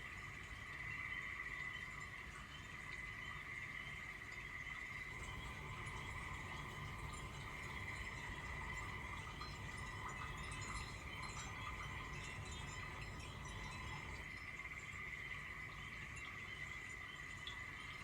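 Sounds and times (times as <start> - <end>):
frogs and insects chorus: 0.7 - 18.0.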